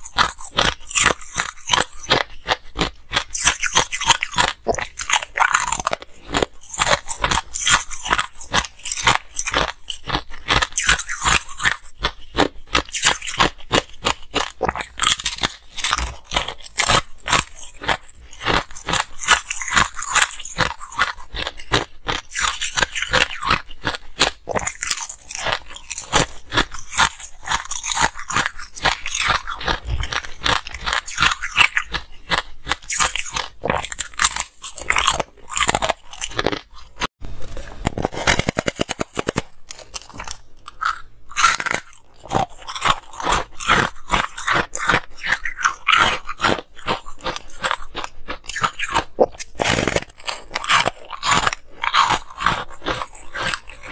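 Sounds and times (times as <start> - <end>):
ice crunching between teeth: 0.0 - 53.9.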